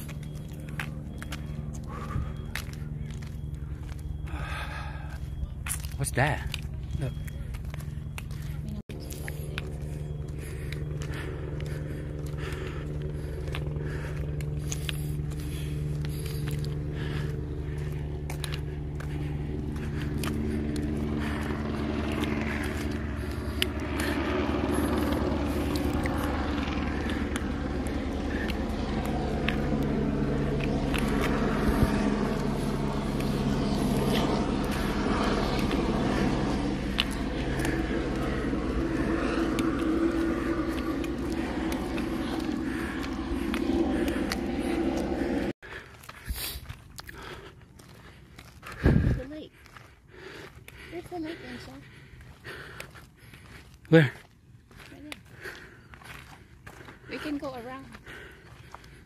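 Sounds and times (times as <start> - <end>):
distant traffic rumble: 0.0 - 59.0
engine drone: 0.0 - 59.0
footsteps on gritty trail: 0.0 - 59.0
steady low hum: 0.0 - 59.0.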